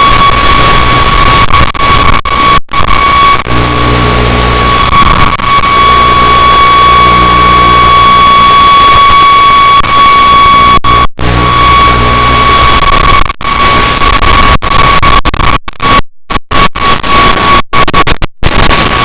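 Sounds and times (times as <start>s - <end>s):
loud static hiss: 0.0s - 19.0s.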